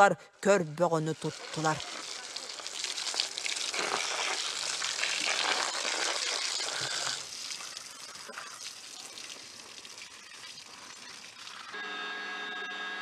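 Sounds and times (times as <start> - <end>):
hose water spraying: 0.8 - 11.8.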